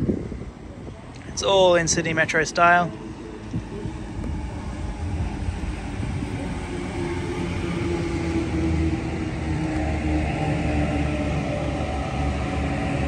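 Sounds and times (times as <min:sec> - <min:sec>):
steady tone from running gear: 0:00.0 - 0:13.0
train rumble: 0:00.0 - 0:13.0.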